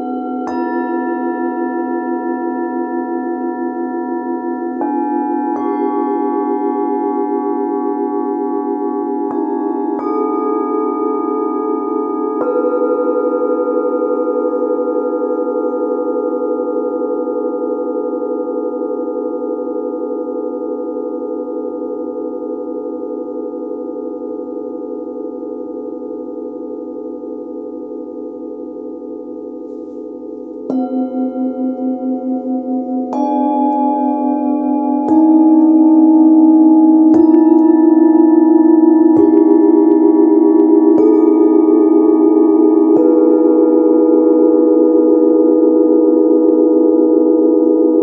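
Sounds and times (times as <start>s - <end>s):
singing bowl struck with mallet: 0.0s - 18.4s, 19.4s - 48.0s
singing bowls ringing: 0.0s - 48.0s.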